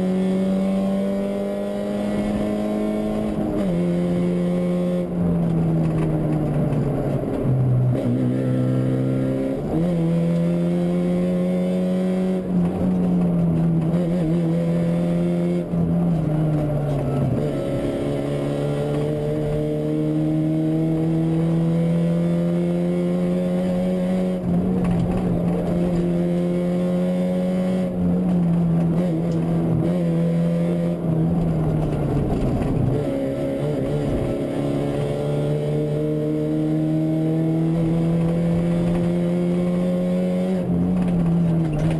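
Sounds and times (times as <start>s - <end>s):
rally car engine pulling hard: 0.0s - 41.9s.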